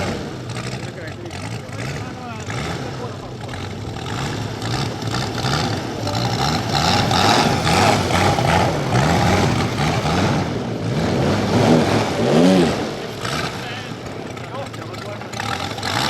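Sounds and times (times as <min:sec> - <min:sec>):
model engine running loudly: 0:00.0 - 0:16.0.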